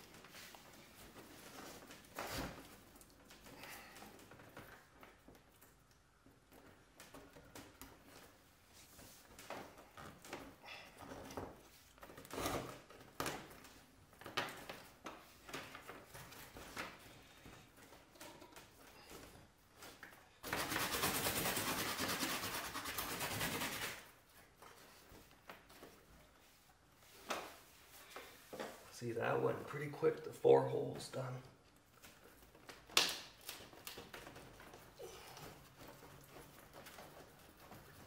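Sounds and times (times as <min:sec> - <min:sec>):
rubs and light knocks: 0:00.0 - 0:28.9, 0:31.8 - 0:38.0.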